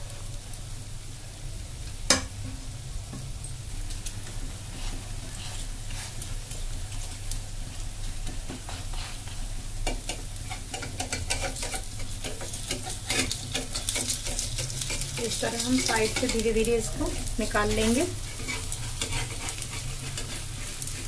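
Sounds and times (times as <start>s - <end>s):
pancake sizzling in a pan: 0.0s - 21.0s
spatula scraping and tapping pan: 4.0s - 21.0s.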